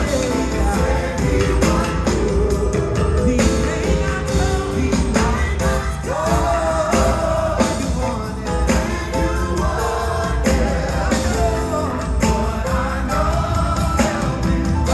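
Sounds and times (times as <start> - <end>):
band playing bass and drums: 0.0 - 14.9
gospel choir singing: 0.0 - 14.9.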